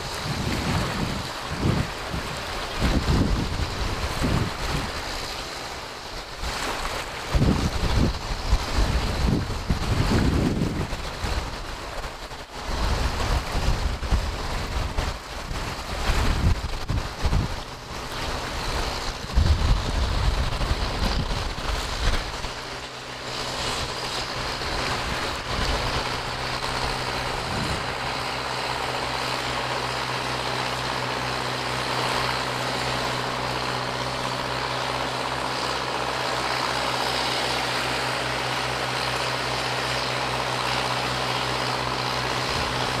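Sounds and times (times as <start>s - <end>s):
constant rushing noise: 0.0s - 43.0s
engine running: 0.0s - 43.0s.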